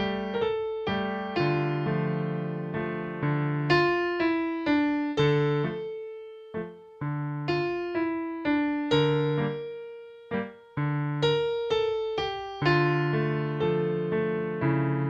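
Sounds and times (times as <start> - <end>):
electric piano playing slow chords: 0.0 - 15.0.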